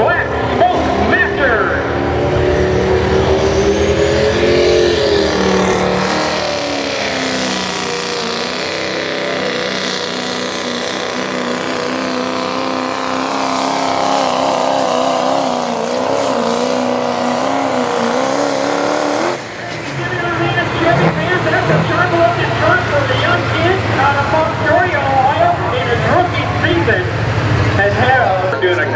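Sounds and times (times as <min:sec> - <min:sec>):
diesel truck engine under load: 0:00.0 - 0:28.9.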